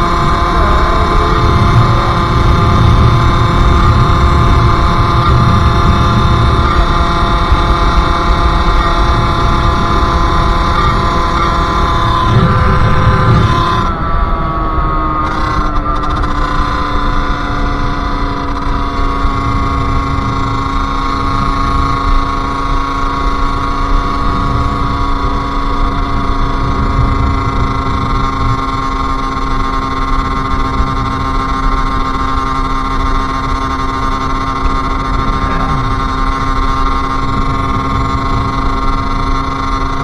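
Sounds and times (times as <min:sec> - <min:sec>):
two-stroke engine running: 0:00.0 - 0:40.0.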